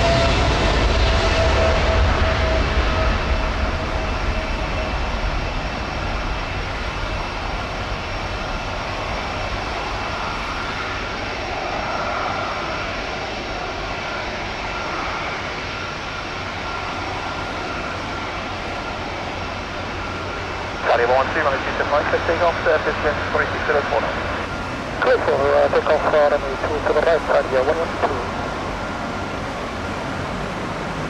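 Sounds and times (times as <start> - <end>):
jet engines roaring with whine: 0.0 - 31.0.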